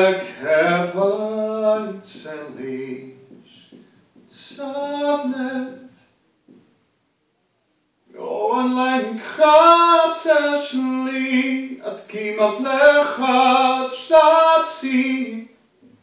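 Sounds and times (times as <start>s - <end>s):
man singing unaccompanied: 0.0s - 6.0s, 8.1s - 15.6s.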